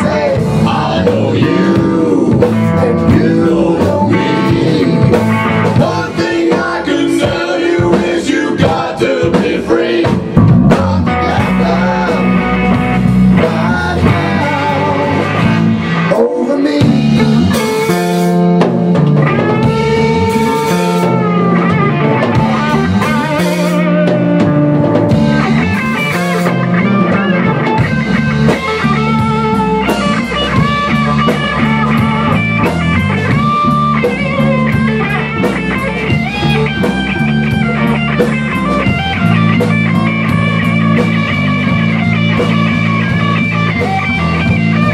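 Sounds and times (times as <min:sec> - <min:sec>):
drum kit: 0:00.0 - 0:44.9
electric bass: 0:00.0 - 0:44.9
electric guitar lead line: 0:00.0 - 0:44.9.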